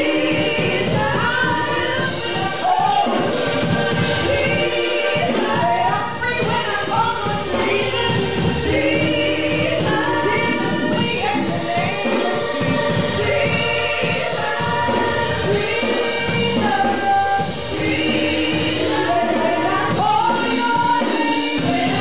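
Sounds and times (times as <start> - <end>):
women singing gospel: 0.0 - 22.0.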